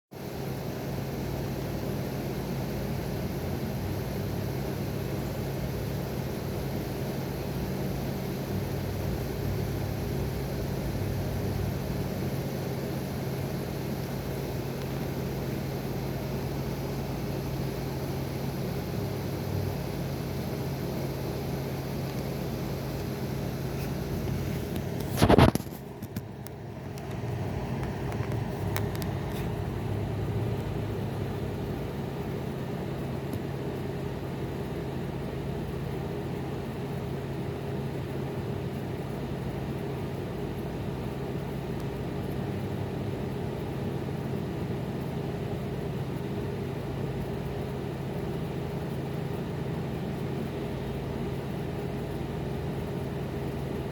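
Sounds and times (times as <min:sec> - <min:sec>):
low hum with hiss: 0:00.2 - 0:53.9.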